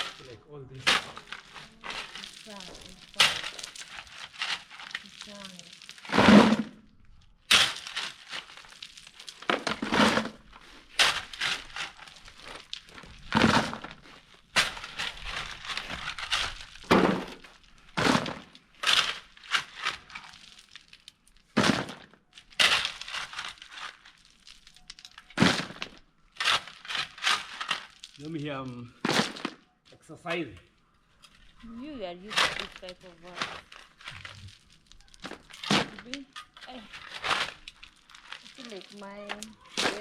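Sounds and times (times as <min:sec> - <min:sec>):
stone ballast crunching: 0:00.0 - 0:40.0.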